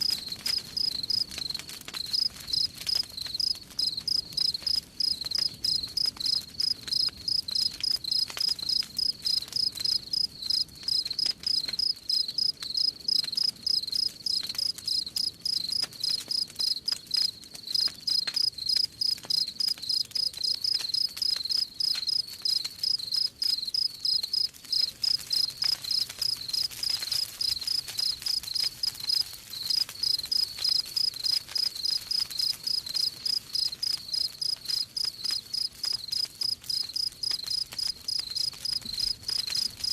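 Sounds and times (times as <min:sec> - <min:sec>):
campfire crackling: 0:00.0 - 0:39.9
cricket chirping: 0:00.0 - 0:39.9.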